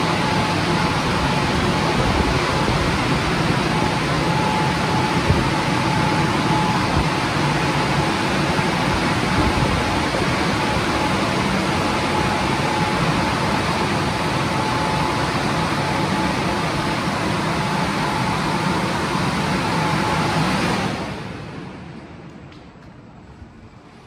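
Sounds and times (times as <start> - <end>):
car wash machine rushing: 0.0 - 21.9
faint steady whine: 0.0 - 24.0.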